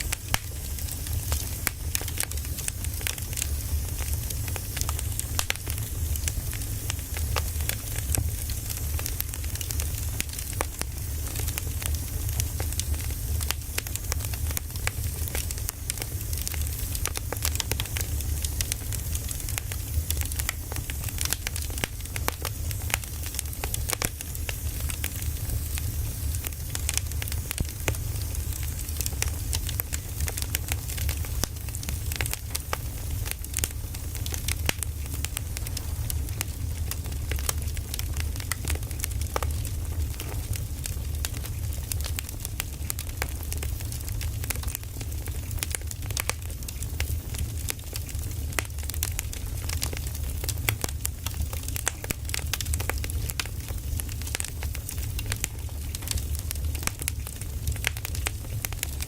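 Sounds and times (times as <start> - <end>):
fire low rumble: 0.0 - 59.0
firewood crackling and popping: 0.0 - 59.0.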